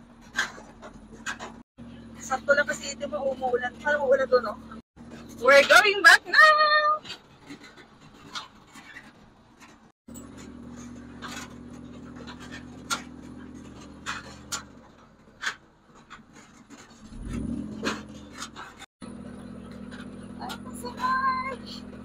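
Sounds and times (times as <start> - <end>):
knocks and rattles: 0.0 - 3.0, 7.0 - 22.0
buggy engine droning: 0.0 - 22.0.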